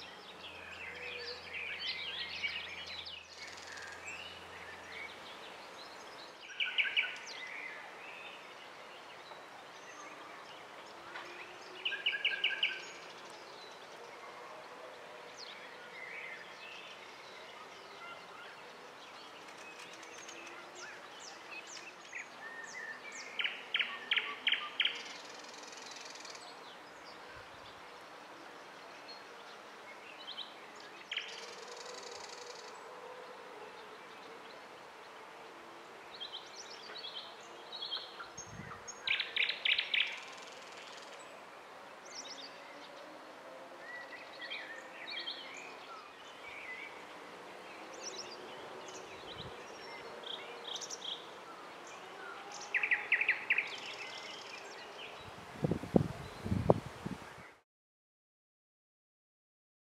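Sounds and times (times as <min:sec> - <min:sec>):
low background noise: 0:00.0 - 0:57.6
songbirds singing and chirping: 0:00.0 - 0:57.6.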